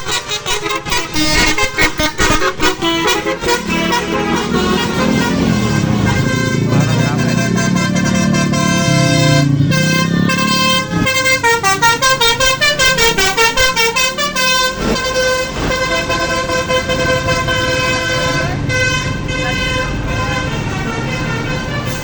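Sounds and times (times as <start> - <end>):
musical bus horn playing: 0.0 - 22.0.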